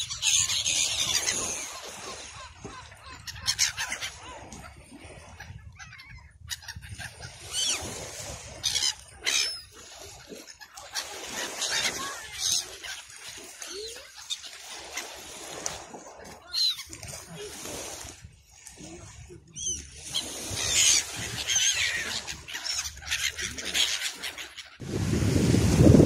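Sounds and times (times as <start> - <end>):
gulls calling: 0.0 - 17.9, 19.4 - 26.0.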